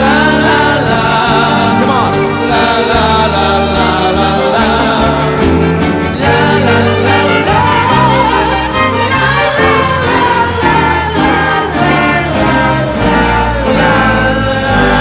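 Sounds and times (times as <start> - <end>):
live rock band music: 0.0 - 15.0.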